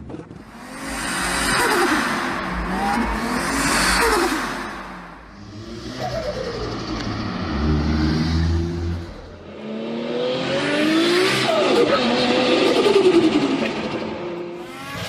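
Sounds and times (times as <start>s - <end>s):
turbocharged car engine revving: 0.0s - 15.0s.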